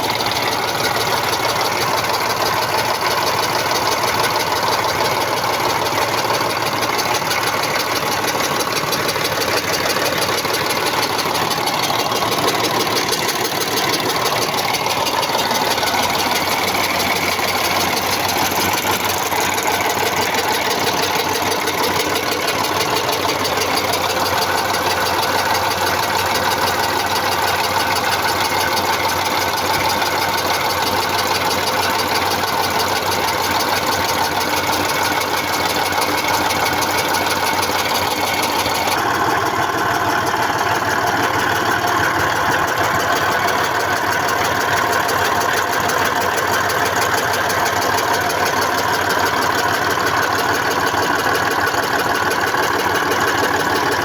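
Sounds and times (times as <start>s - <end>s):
diesel engine idling with knock: 0.0s - 54.0s.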